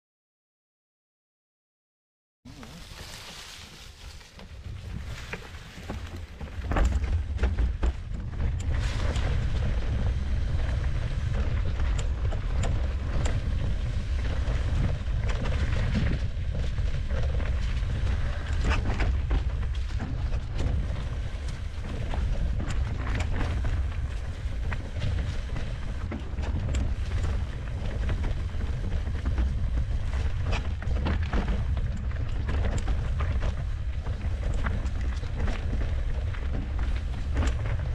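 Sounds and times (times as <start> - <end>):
tyres rolling over leaves and rocks: 2.5 - 37.9
wind rumble on microphone: 2.5 - 37.9
bike clicks and rattles: 2.9 - 37.9.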